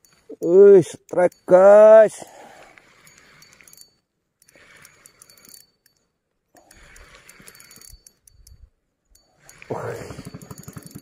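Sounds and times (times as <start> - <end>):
fishing reel ticking: 0.0 - 11.0.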